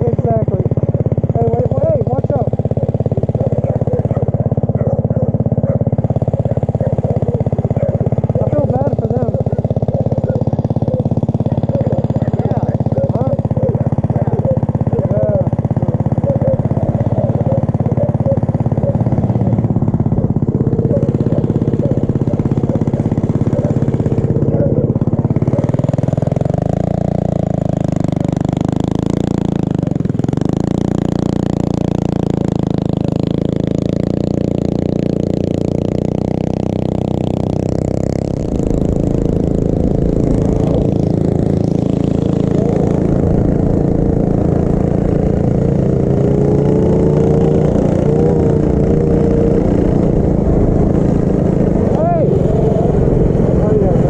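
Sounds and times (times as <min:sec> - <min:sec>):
mini bike engine running: 0:00.0 - 0:54.0.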